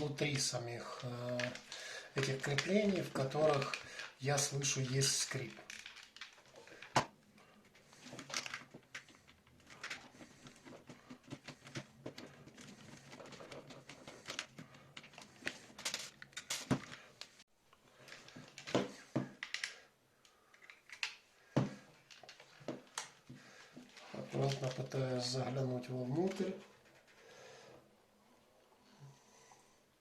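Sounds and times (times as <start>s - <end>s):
plastic headset clicks and crackles: 0.0s - 27.3s.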